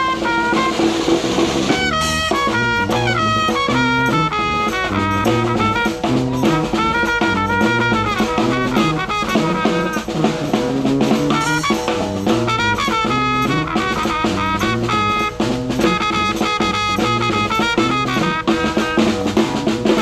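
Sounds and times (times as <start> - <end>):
snare drum beat: 0.0 - 20.0
sousaphone bass line: 0.0 - 20.0
trumpet melody: 0.0 - 20.0.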